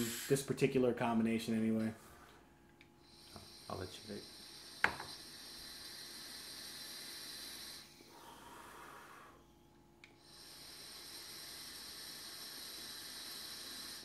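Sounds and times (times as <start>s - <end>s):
soft exhale of vapour: 0.0s - 0.5s, 2.0s - 14.0s
faint breathing: 1.9s - 14.0s.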